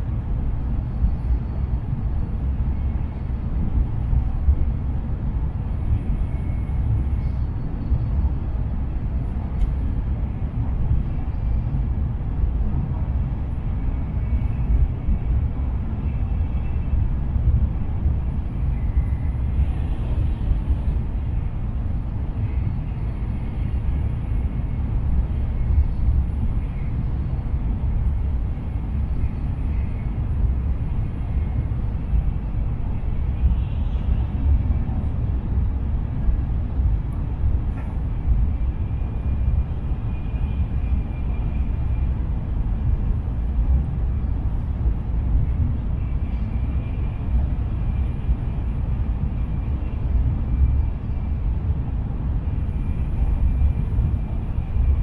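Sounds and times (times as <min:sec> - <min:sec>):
train cabin low rumble: 0:00.0 - 0:55.0.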